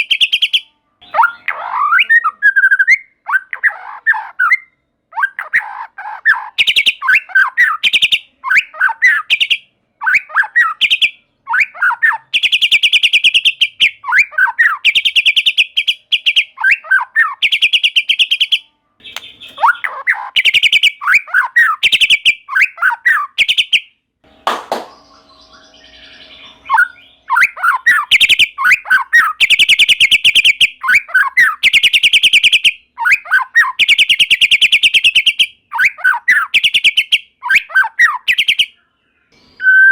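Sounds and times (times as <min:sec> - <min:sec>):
bird singing whistles and trills: 0:00.0 - 0:23.9, 0:24.9 - 0:39.9.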